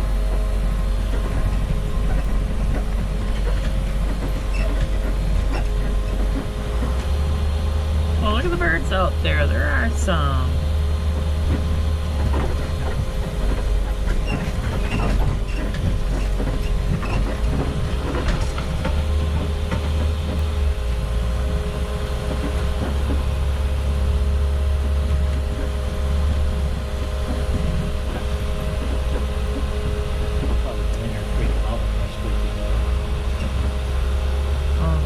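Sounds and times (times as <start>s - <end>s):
bus engine low drone: 0.0s - 35.0s.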